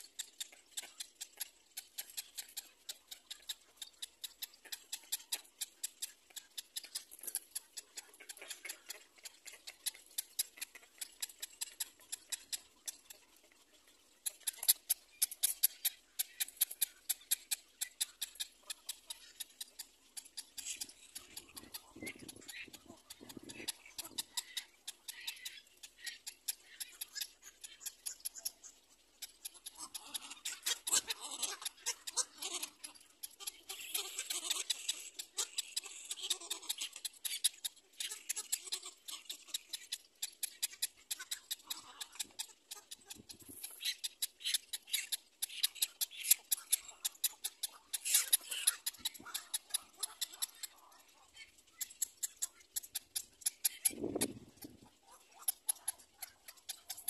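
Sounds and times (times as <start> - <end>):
birds ticking and clicking: 0.0 - 57.0
raspy high-pitched bird calls: 0.0 - 57.0.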